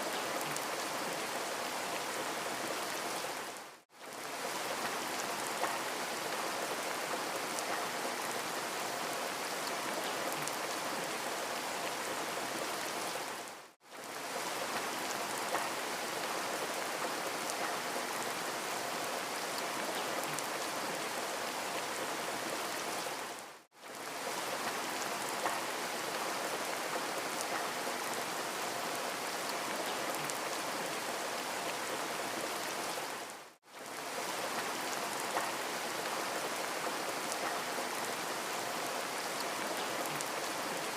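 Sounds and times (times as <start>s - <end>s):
rain hiss: 0.0s - 40.9s.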